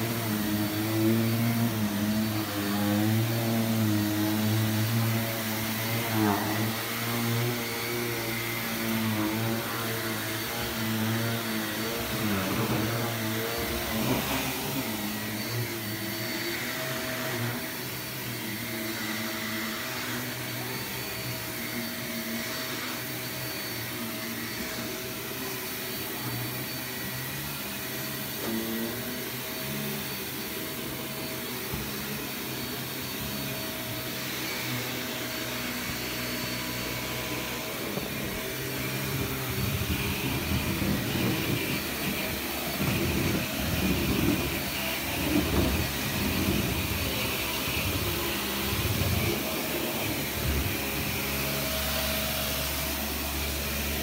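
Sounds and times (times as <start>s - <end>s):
vacuum cleaner whine: 0.0s - 54.0s.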